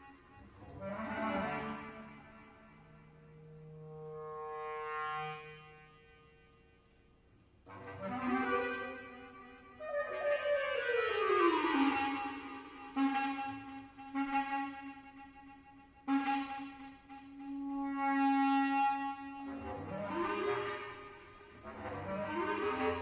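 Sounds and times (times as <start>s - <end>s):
bass clarinet with electronics: 0.0s - 6.3s, 7.7s - 23.0s.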